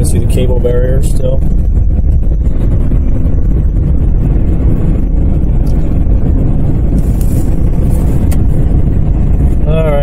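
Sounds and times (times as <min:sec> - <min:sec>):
vehicle driving on snowy road: 0:00.0 - 0:10.0.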